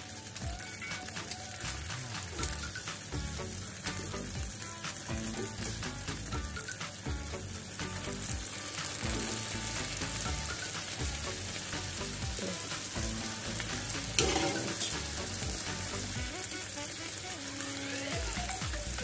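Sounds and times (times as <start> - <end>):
shrimp sizzling on a grill pan: 0.0 - 19.0.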